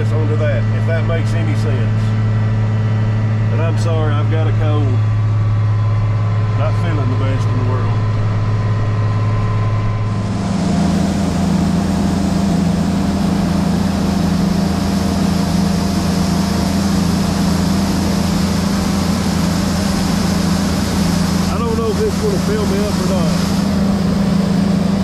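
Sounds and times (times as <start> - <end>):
combine engine hum: 0.0 - 25.0
engine drone inside cab: 0.0 - 25.0.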